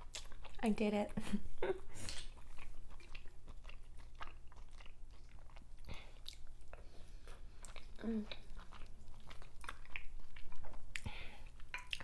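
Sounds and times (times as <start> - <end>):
chewing and crunching: 0.0 - 1.1, 2.0 - 12.0.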